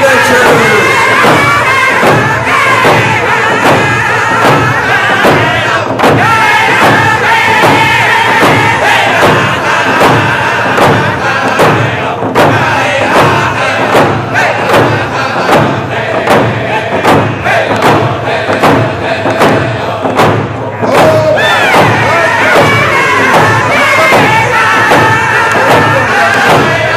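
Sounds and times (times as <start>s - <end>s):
group of singers chanting: 0.0s - 26.9s
hand drums beating: 0.0s - 26.9s.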